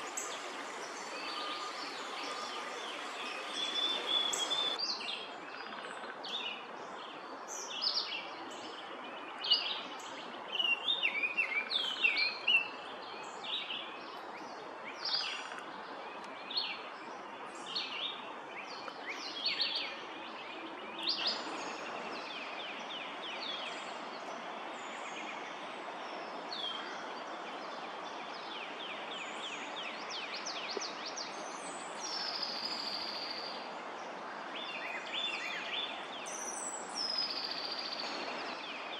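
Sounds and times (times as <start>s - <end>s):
steady background hiss: 0.0s - 5.5s, 12.2s - 38.9s
songbirds singing and chirping: 0.0s - 38.9s.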